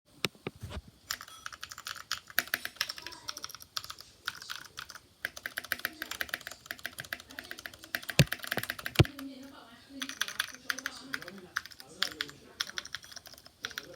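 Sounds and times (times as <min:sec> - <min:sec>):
mechanical keyboard typing: 0:01.1 - 0:09.3, 0:10.0 - 0:13.9.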